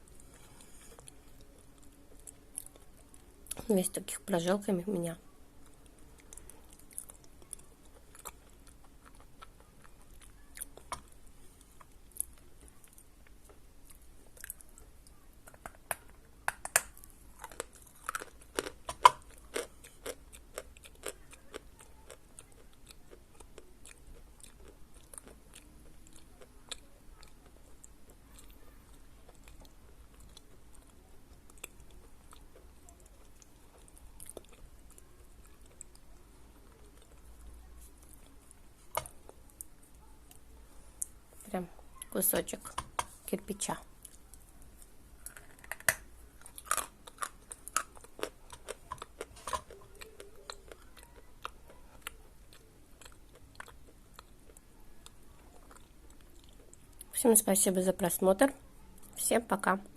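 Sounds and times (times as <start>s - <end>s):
person chewing chalk crunchily: 5.6s - 41.2s, 44.0s - 57.1s.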